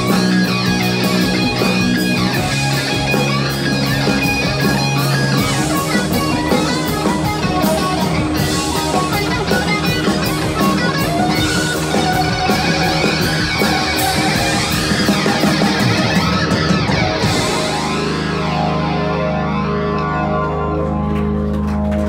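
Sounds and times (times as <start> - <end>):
drum kit: 0.0 - 22.0
electric bass: 0.0 - 22.0
electric guitars: 0.0 - 22.0.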